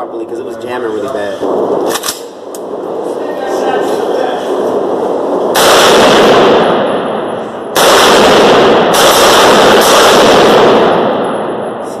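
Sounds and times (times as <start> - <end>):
gunshots with long echo: 0.7 - 12.0.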